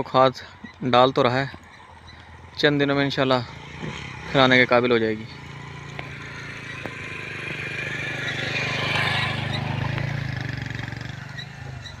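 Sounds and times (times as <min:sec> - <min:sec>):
vehicle engine passing by: 0:02.0 - 0:12.0.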